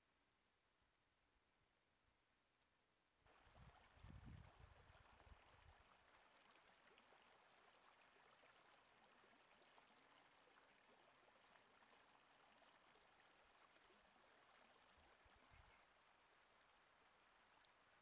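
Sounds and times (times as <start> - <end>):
stream water running: 3.3 - 18.0.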